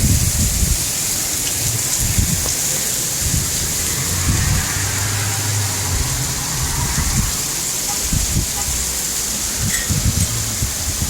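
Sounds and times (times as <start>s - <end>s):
heavy rain: 0.0s - 11.0s
wind buffeting microphone: 0.0s - 11.0s.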